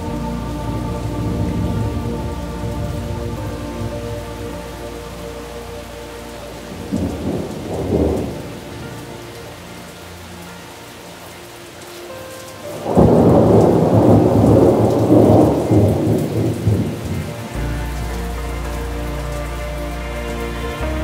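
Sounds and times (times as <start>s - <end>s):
thunder rumbling: 0.0s - 10.6s, 12.7s - 21.0s
soft music with low note: 0.0s - 21.0s
steady rain: 0.0s - 21.0s.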